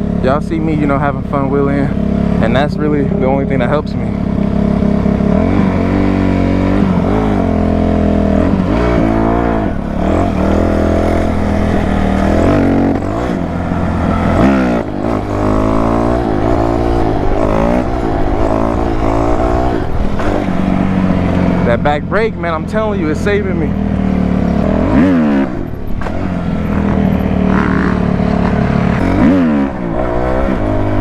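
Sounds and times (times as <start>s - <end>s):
dirt bike engines revving: 0.0s - 31.0s
steady engine drone: 0.0s - 31.0s.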